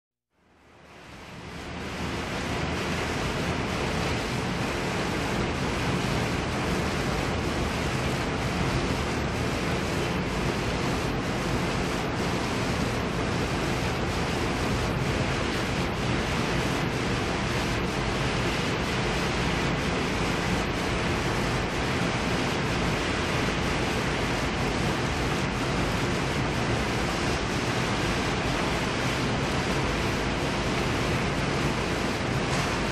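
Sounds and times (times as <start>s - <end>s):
steady rain hiss: 0.4s - 32.9s.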